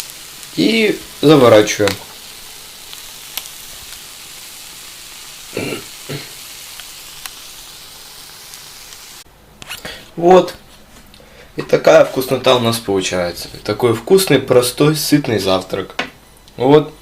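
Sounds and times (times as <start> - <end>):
bread sizzling in a frying pan: 0.0 - 9.3, 9.9 - 17.0.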